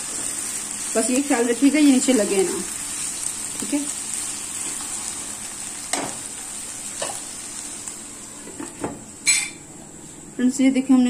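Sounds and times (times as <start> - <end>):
chicken sizzling in a wok: 0.0 - 9.7.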